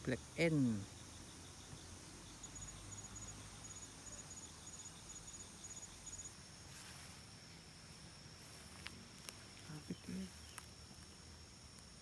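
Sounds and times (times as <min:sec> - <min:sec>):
insect chirping trills: 0:00.0 - 0:12.0.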